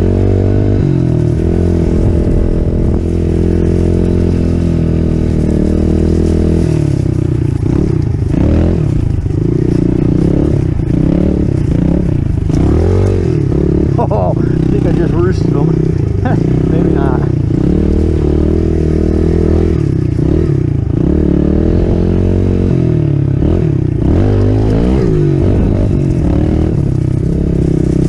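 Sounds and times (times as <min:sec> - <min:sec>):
pit bike engine revving: 0:00.0 - 0:28.0.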